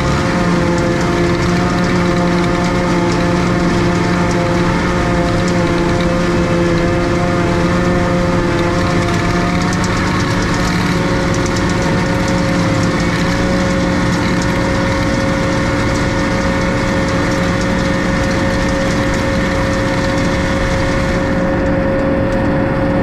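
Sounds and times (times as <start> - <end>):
fast regular ticking: 0.0 - 22.4
tractor engine running: 0.0 - 23.0.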